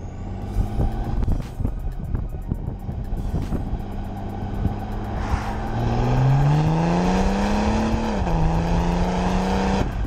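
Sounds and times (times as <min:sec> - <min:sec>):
diesel car engine accelerating: 0:00.0 - 0:10.0.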